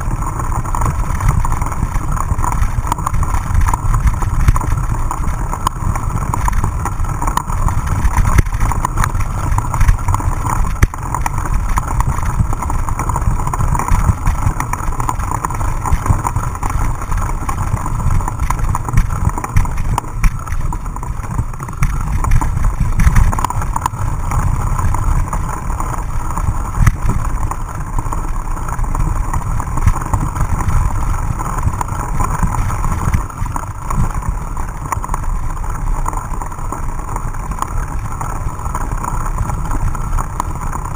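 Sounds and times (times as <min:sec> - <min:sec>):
bike clicks and rattles: 0:00.0 - 0:40.9
wind and vibration rumble: 0:00.0 - 0:40.9.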